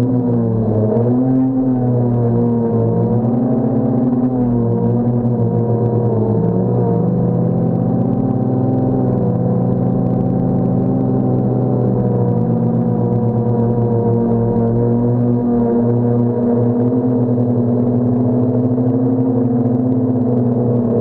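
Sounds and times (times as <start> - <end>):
drone propellers humming: 0.0 - 21.0
wind rumble on microphone: 0.0 - 21.0.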